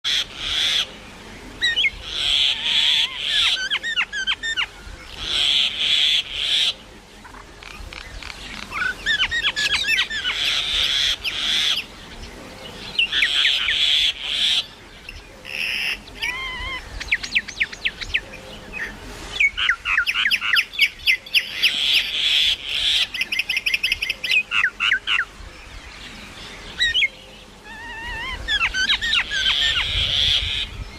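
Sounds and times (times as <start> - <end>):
myna calling: 0.1 - 12.0, 12.6 - 25.3, 26.7 - 30.9.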